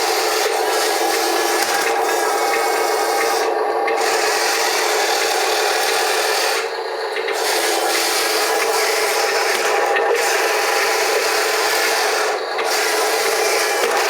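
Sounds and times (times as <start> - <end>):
wheel loader drone: 0.0 - 14.0.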